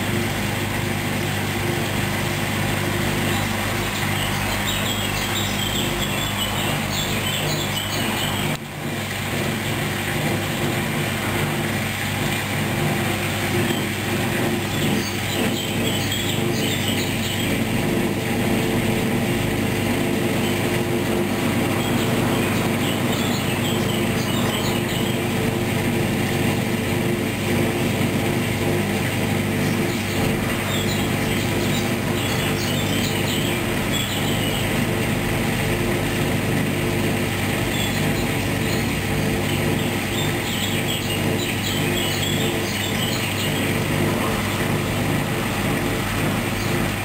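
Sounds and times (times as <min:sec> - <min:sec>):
washing machine hum: 0:00.0 - 0:47.0.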